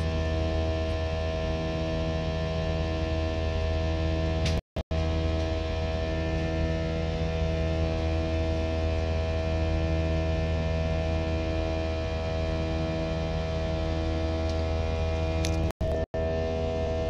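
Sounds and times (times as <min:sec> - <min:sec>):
jet engine cabin drone: 0:00.0 - 0:17.0.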